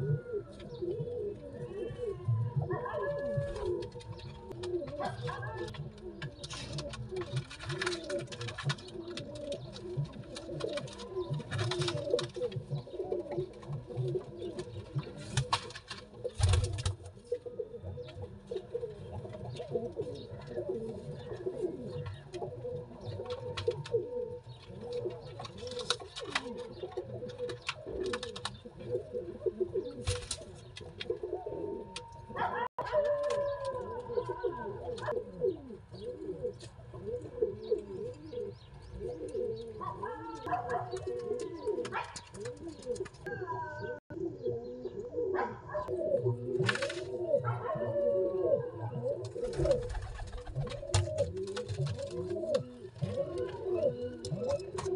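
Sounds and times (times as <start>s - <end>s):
pigeons cooing: 0.0s - 54.9s.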